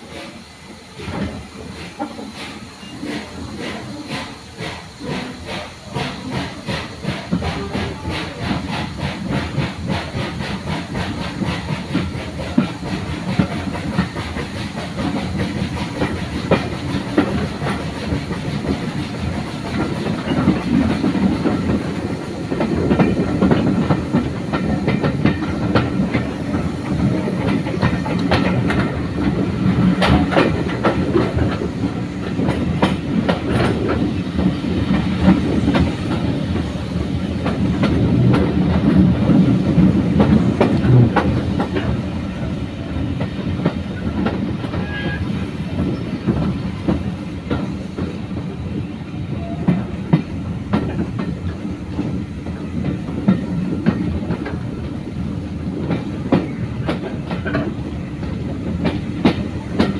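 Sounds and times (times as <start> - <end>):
train coach rumbling: 0.0 - 59.9.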